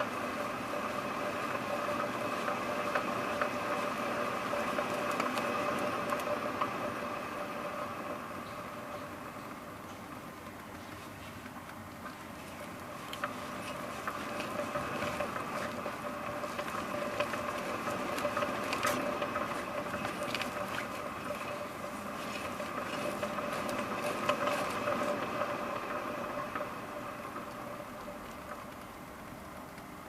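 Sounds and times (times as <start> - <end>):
faint steady whine: 0.0 - 30.0.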